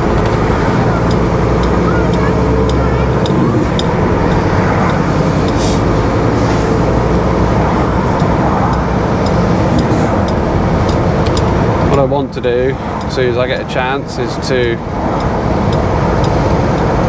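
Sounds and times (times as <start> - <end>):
sharp clicks and rattles: 0.0 - 17.0
truck engine and road drone: 0.0 - 17.0.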